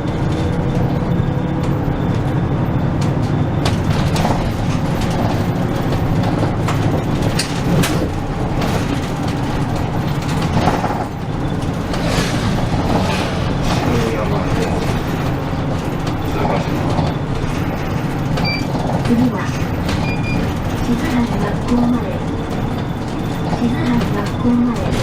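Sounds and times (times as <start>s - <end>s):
bus engine and road drone: 0.0s - 25.0s
rattles and clicks inside bus: 0.0s - 25.0s.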